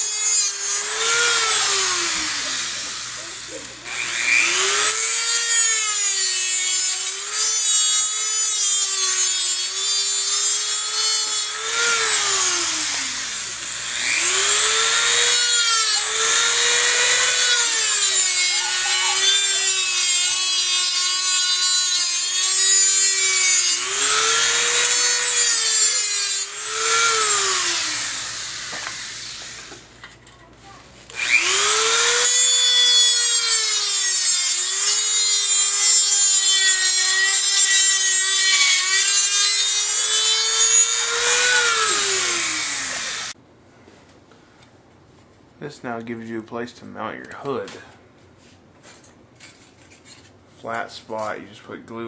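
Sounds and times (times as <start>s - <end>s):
rotary tool cutting sheet metal: 0.0s - 29.9s, 31.2s - 43.4s.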